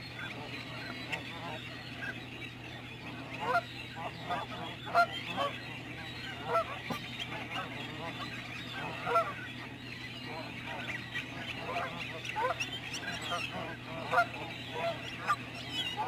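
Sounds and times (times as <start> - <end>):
flock of waterbirds calling: 0.0 - 16.0.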